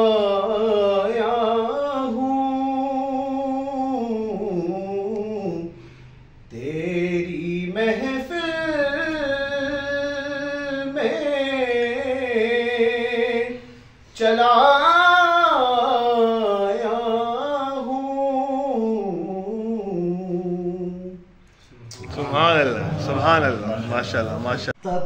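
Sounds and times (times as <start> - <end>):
man singing unaccompanied: 0.0 - 5.8, 6.5 - 21.3.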